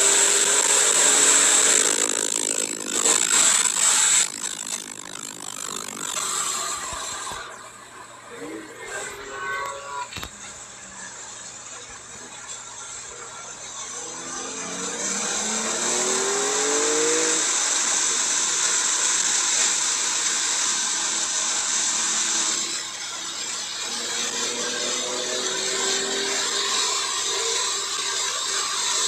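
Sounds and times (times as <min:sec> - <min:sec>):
car engine accelerating: 0:00.0 - 0:10.2, 0:13.8 - 0:29.0.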